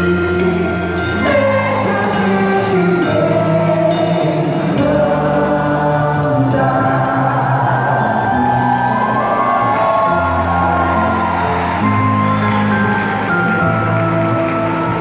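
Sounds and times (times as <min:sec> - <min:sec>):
group singing with bass and percussion: 0:00.0 - 0:15.0.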